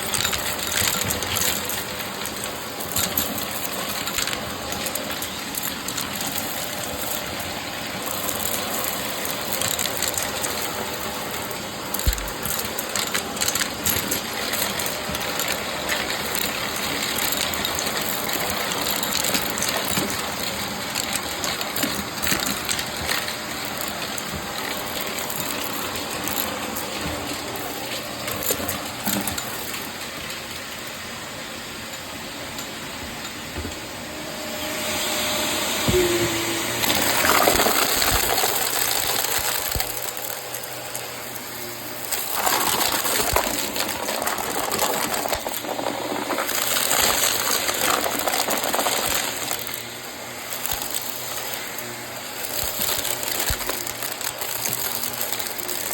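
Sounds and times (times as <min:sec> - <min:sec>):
debris crackling up nozzle: 0:00.0 - 0:30.2, 0:36.8 - 0:55.9
vacuum cleaner running: 0:00.0 - 0:55.9.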